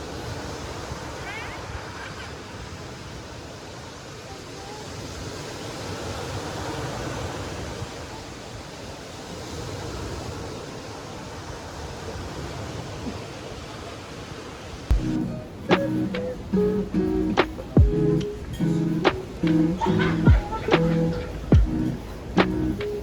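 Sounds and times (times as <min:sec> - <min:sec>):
ocean surf washing ashore: 0:00.0 - 0:23.0.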